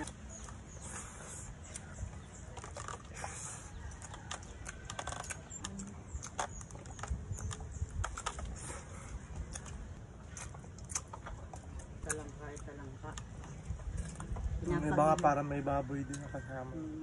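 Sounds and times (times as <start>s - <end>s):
open-mouthed chewing and lip-smacking: 0.0s - 15.3s.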